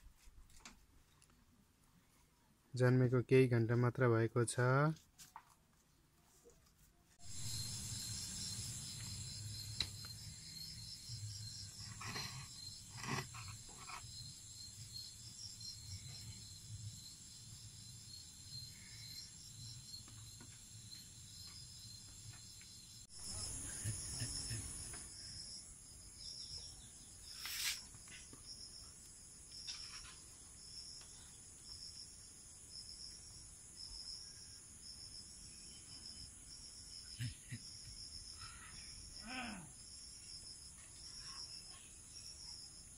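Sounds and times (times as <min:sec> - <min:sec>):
insects chirping: 0:07.2 - 0:42.9.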